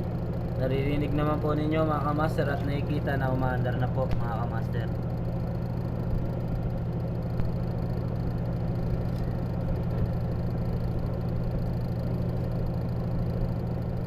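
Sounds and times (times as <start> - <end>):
spin-dryer motor humming: 0.0 - 14.0.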